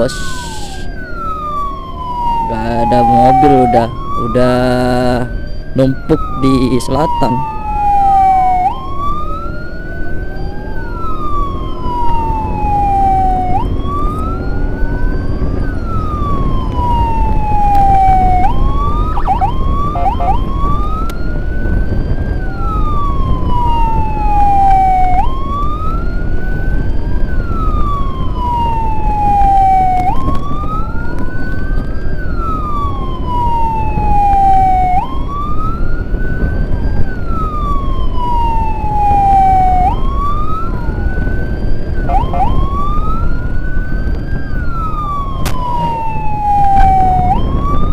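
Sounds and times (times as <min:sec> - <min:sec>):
engine and road noise: 0:00.0 - 0:47.9
siren chirps: 0:00.0 - 0:47.9
siren wailing: 0:00.0 - 0:47.9.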